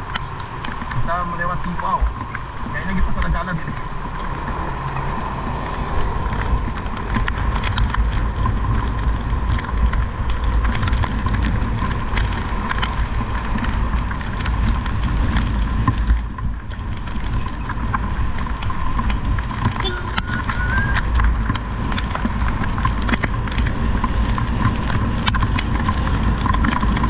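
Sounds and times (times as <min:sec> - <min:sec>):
sharp taps of raindrops: 0:00.0 - 0:27.0
wind rumble on microphone: 0:00.0 - 0:27.0.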